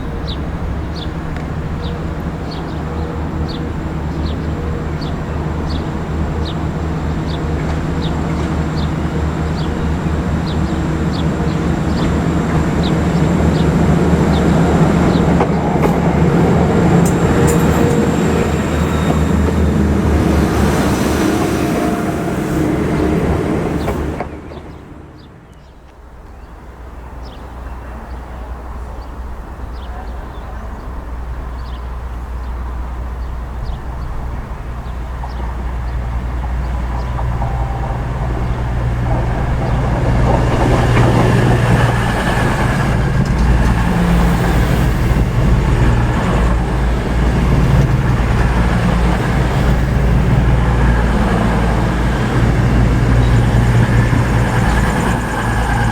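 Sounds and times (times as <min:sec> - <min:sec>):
diesel train engine running: 0:00.0 - 0:55.9.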